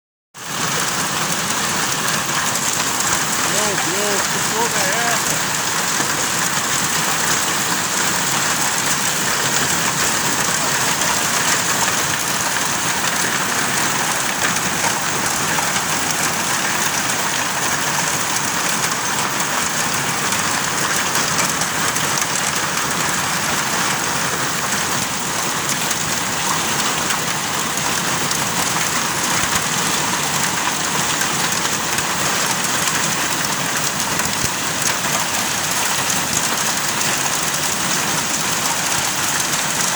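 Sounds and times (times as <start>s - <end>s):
hail and heavy rain pelting: 0.4s - 39.9s.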